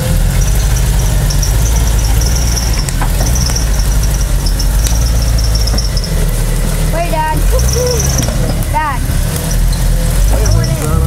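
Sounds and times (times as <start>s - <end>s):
engine rumbling: 0.0s - 11.0s
thin high squeal: 0.0s - 11.0s.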